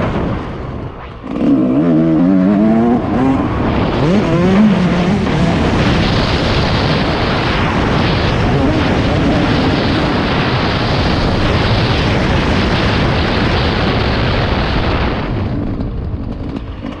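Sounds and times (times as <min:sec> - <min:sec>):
motorcycle engine: 0:00.0 - 0:17.0
wind rushing on microphone: 0:00.0 - 0:17.0.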